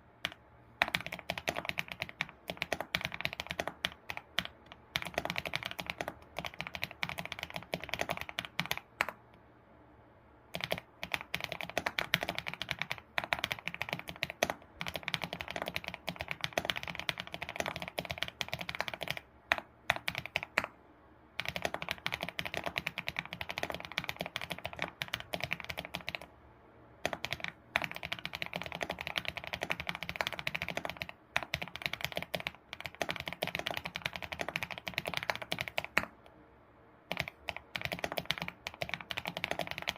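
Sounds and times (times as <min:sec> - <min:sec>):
keyboard typing: 0:00.0 - 0:09.4, 0:10.5 - 0:20.8, 0:21.4 - 0:26.3, 0:27.0 - 0:36.3, 0:37.1 - 0:39.9.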